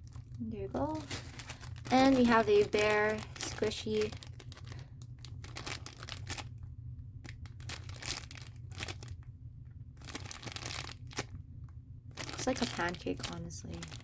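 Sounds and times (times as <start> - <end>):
plastic packaging crinkling: 0.0 - 9.3, 10.0 - 11.4, 12.1 - 14.0.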